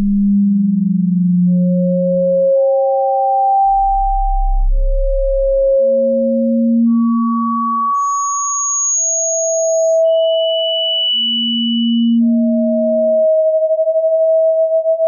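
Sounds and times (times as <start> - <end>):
electronic sine tones: 0.0 - 15.0.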